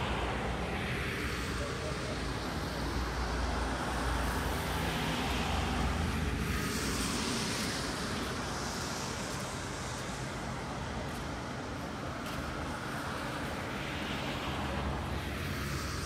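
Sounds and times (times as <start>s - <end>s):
street noise: 0.0s - 16.0s
tyres hissing on wet road: 0.0s - 16.0s.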